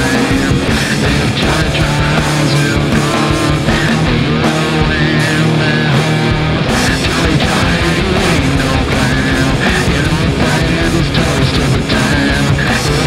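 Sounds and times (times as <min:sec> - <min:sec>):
grunge rock song: 0:00.0 - 0:13.0.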